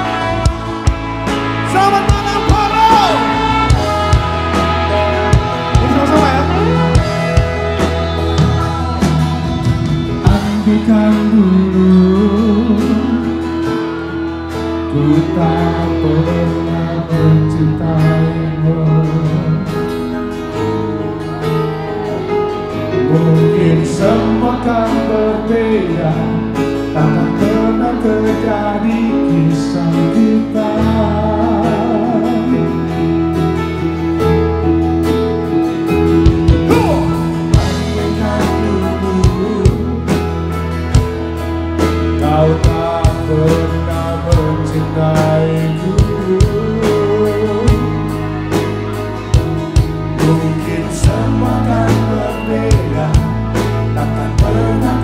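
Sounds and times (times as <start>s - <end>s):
person singing: 0.0s - 19.9s, 21.3s - 33.3s, 36.5s - 41.0s, 42.0s - 48.5s, 50.0s - 55.0s
electric guitars: 0.0s - 55.0s
held bass line: 0.0s - 55.0s
keyboard: 0.0s - 55.0s.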